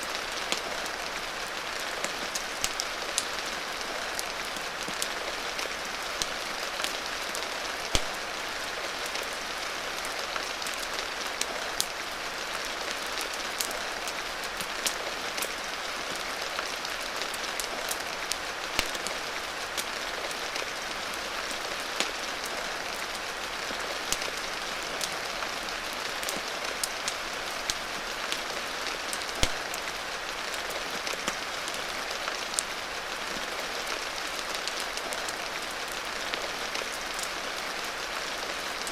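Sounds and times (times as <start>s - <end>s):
rain hiss: 0.0s - 38.9s
wood fire crackling: 0.1s - 11.9s, 16.2s - 38.0s.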